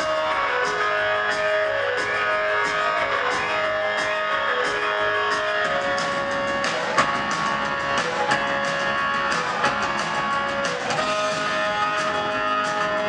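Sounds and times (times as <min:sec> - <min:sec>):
drums and cymbals: 0:00.0 - 0:13.0
electric guitar chords: 0:00.0 - 0:13.0
live band music: 0:00.0 - 0:13.0.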